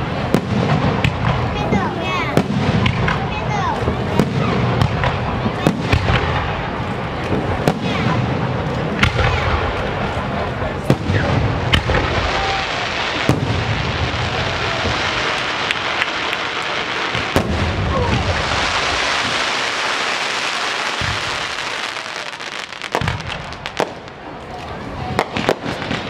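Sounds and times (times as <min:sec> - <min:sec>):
fireworks whistling: 0:00.0 - 0:24.3
fireworks bangs: 0:00.0 - 0:26.0
fireworks crackling: 0:00.0 - 0:26.0.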